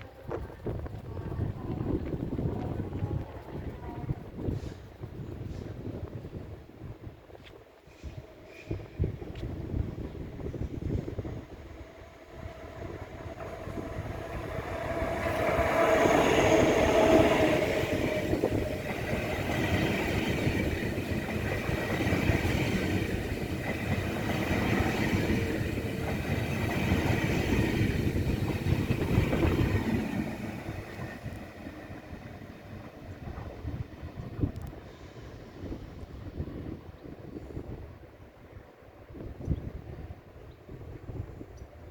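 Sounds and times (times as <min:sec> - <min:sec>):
high-speed train passing: 0:00.0 - 0:41.9.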